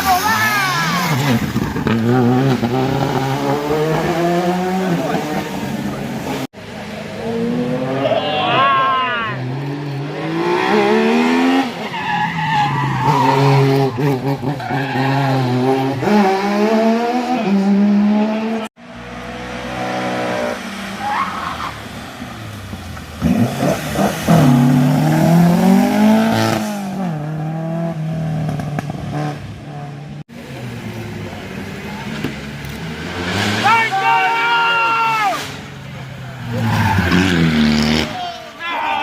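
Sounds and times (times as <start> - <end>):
racing car engines accelerating: 0.0 - 34.4, 35.3 - 38.4.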